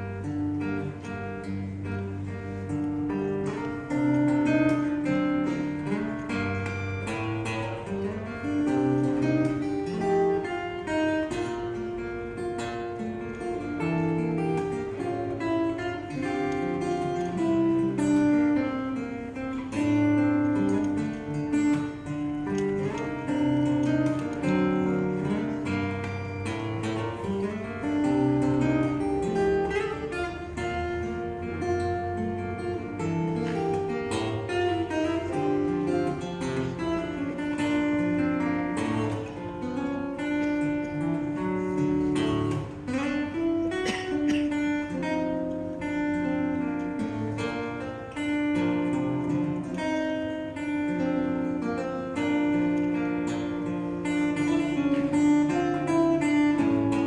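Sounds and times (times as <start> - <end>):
fingerstyle acoustic guitar: 0.0 - 57.0.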